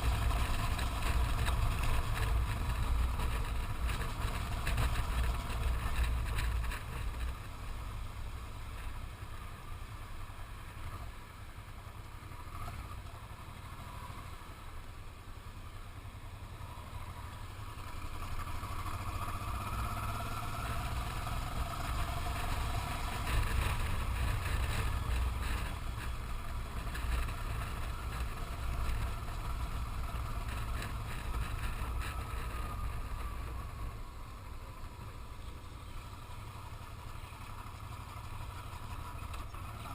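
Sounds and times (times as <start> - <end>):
motorcycle engine whine: 0.0 - 39.9.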